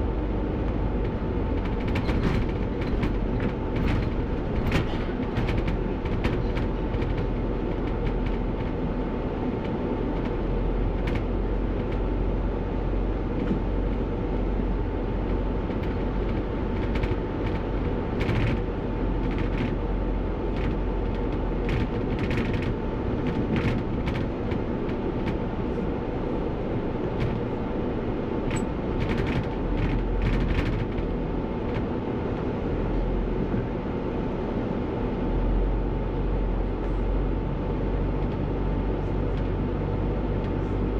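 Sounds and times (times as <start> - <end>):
bus engine and road noise: 0.0 - 40.9.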